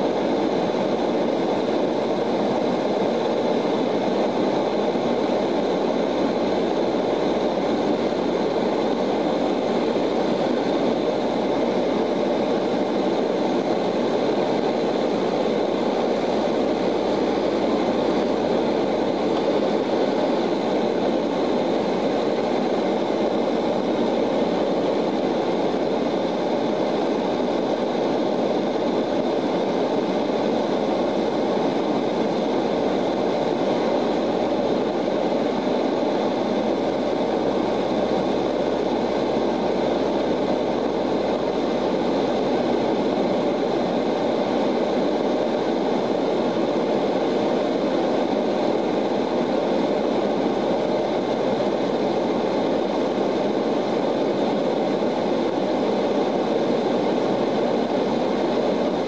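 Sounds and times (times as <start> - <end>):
high engine whine: 0.0 - 59.0
turboprop engines droning in flight: 0.0 - 59.0.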